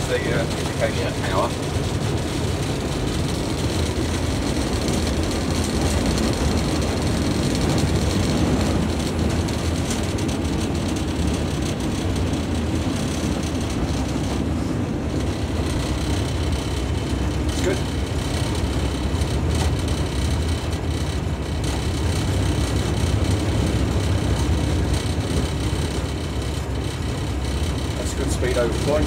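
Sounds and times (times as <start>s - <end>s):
diesel locomotive engine running: 0.0s - 29.0s
train wheels on rails: 0.0s - 29.0s.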